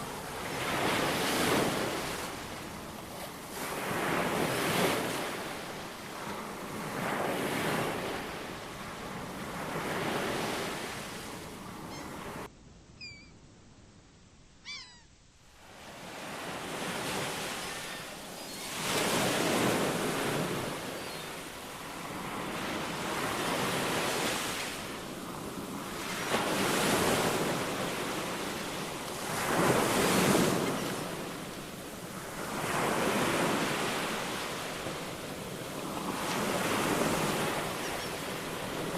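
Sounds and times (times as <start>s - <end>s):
ocean waves breaking: 0.0s - 12.5s, 15.5s - 38.9s.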